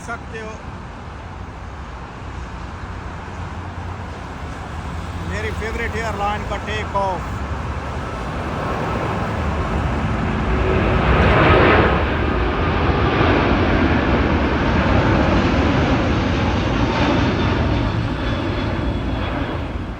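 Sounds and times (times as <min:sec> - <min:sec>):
jet engines roaring at takeoff: 0:00.0 - 0:19.9.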